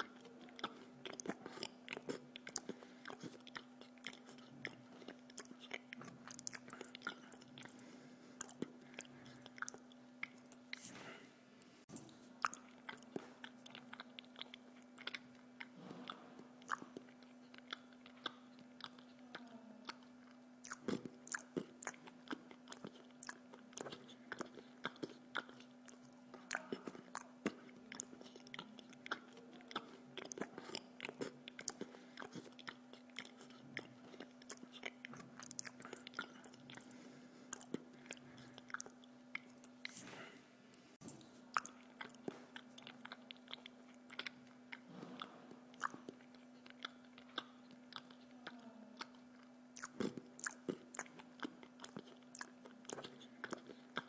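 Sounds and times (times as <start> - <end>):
low steady hum: 0.0 - 54.0
person chewing food: 0.0 - 54.0.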